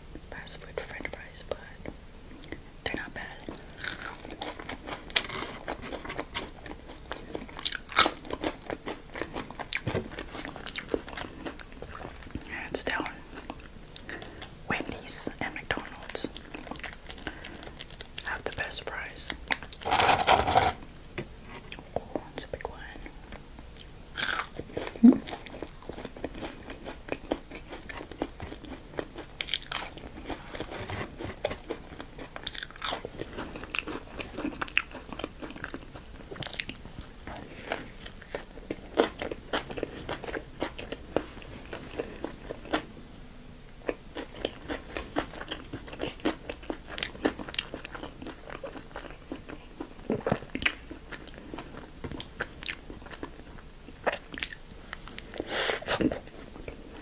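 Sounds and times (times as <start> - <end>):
chewing crunchy food: 2.3 - 20.9, 21.5 - 42.9, 43.8 - 57.0.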